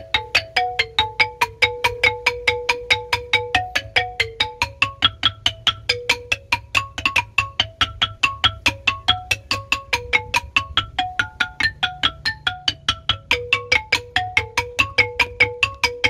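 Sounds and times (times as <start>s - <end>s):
bamboo xylophone notes: 0.0s - 16.0s.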